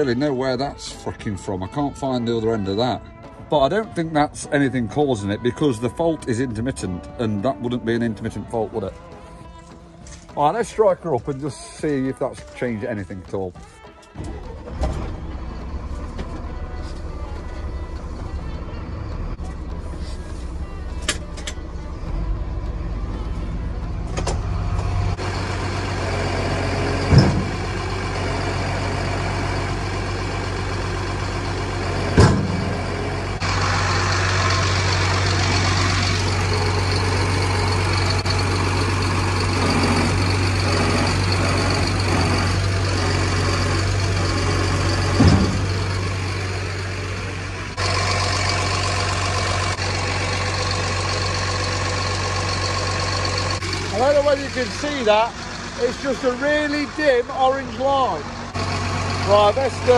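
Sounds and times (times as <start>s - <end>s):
diesel lorry engine idling: 0.0s - 59.9s.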